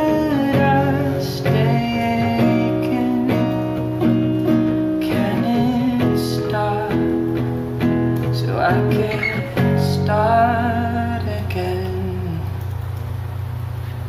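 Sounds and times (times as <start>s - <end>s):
song with guitar chords: 0.0s - 12.8s.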